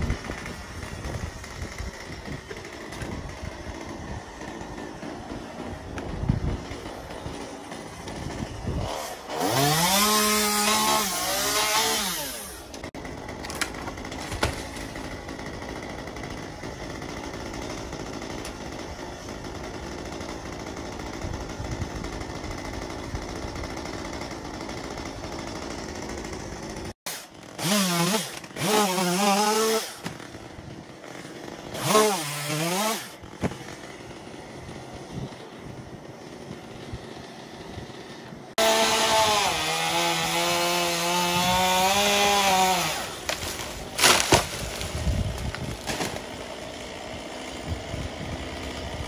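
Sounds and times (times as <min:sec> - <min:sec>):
chainsaw cutting branches: 0:00.0 - 0:49.0.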